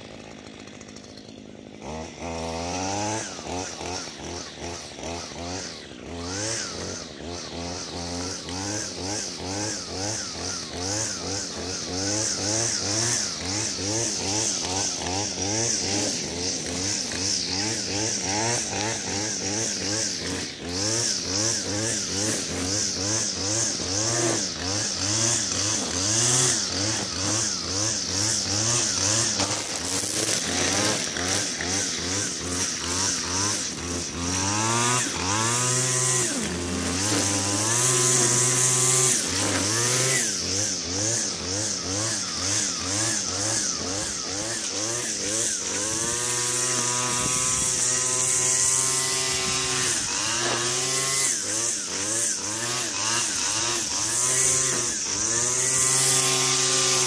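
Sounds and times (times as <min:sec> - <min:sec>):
spinning trimmer line hiss: 0:00.0 - 0:57.0
string trimmer engine revving: 0:00.0 - 0:57.0.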